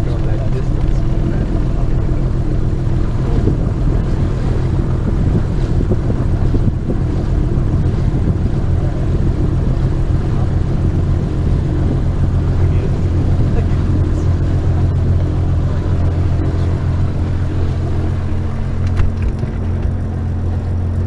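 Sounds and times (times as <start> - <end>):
aircraft engine droning: 0.0 - 21.0
water rushing along hull: 0.0 - 21.0.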